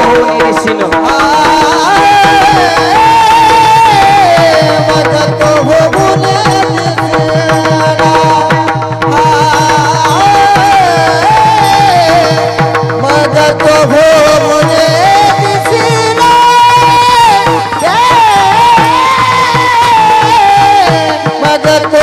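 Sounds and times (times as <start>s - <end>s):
hand drum beat: 0.0s - 22.0s
person singing ornamented melody: 0.0s - 22.0s.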